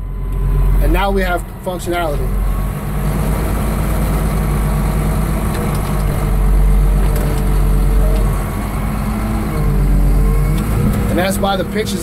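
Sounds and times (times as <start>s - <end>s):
diesel dozer engine running: 0.0s - 12.0s.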